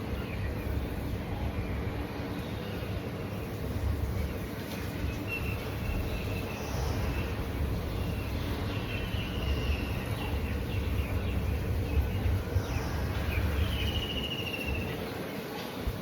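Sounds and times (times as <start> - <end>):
steady low rumble: 0.0 - 15.2.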